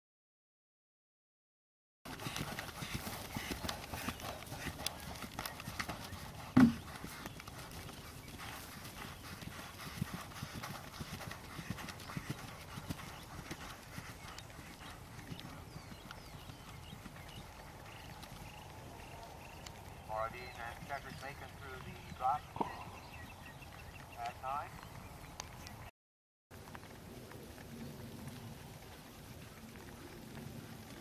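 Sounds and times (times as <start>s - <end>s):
horse hoofbeats galloping on turf: 2.1s - 25.8s, 26.5s - 31.0s.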